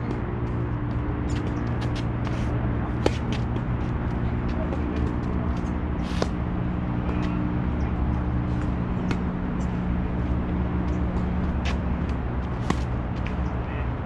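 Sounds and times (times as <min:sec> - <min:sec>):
low mechanical hum: 0:00.0 - 0:14.0
tennis racquets striking ball: 0:00.1 - 0:09.7, 0:11.1 - 0:13.5.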